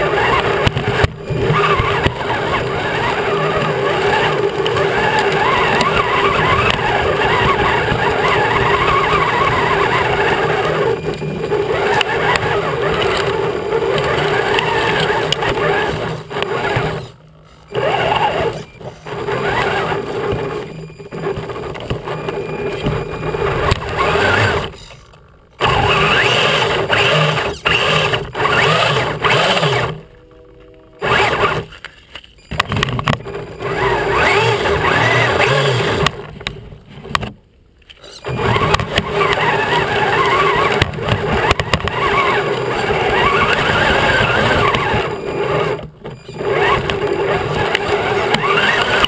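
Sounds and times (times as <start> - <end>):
toy truck motor whining: 0.0 - 30.2, 31.0 - 36.3, 37.9 - 49.0.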